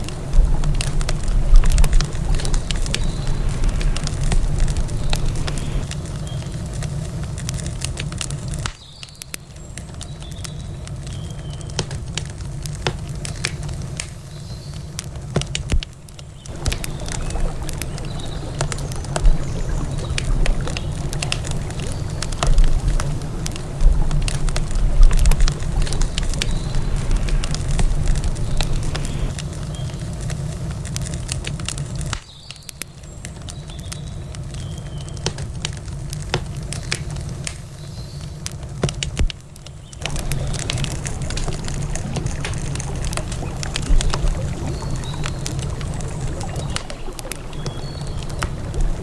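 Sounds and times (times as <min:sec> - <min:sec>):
campfire popping and snapping: 0:00.0 - 0:49.0
low rumble of fire: 0:00.0 - 0:49.0.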